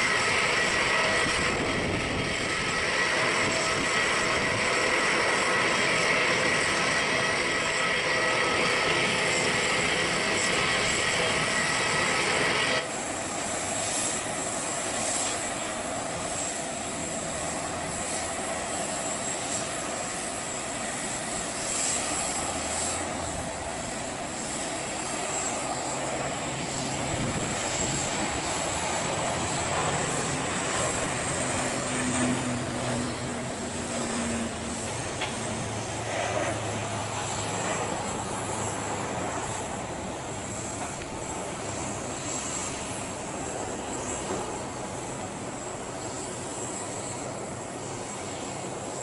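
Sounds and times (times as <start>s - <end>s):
low drone: 0.0s - 49.0s
turboprop engines whining: 0.0s - 49.0s.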